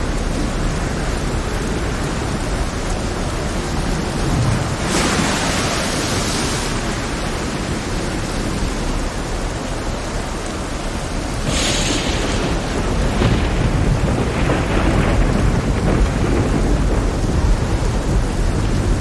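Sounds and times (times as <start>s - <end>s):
heavy rain: 0.0s - 19.0s
rough sea rumbling: 0.0s - 19.0s.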